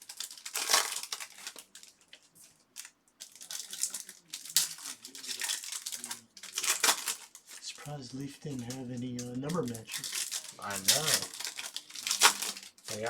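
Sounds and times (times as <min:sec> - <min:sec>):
plastic wrappers crinkling: 0:00.0 - 0:13.0.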